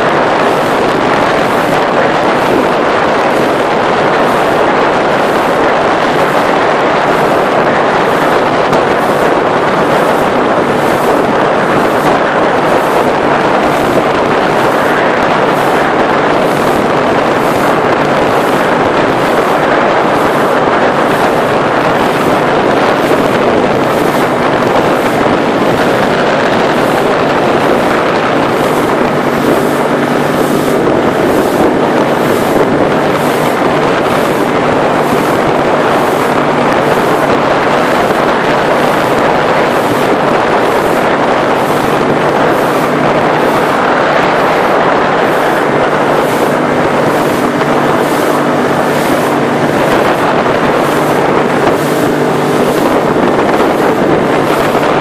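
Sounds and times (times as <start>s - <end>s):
motorboat engine droning: 0.0s - 55.0s
water rushing: 0.0s - 55.0s
wind buffeting microphone: 0.0s - 55.0s.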